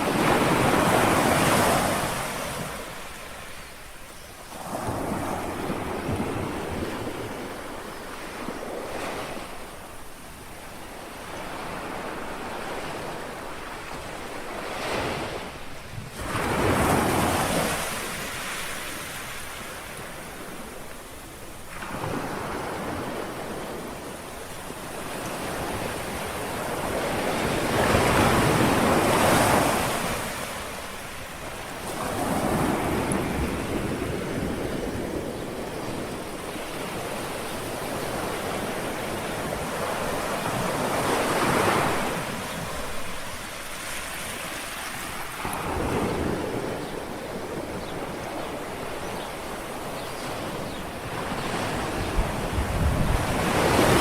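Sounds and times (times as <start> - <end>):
light wind: 0.0 - 54.0
small waves lapping on shore: 0.0 - 54.0.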